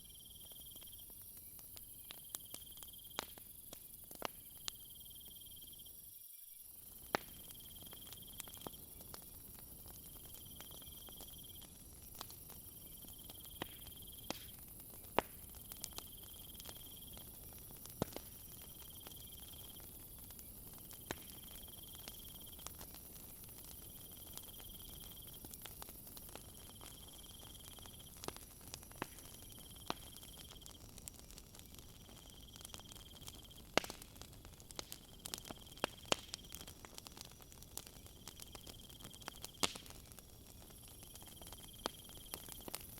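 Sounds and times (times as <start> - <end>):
insect chorus drone: 0.0 - 42.9
wood fire crackling and popping: 0.1 - 5.7, 6.8 - 42.9.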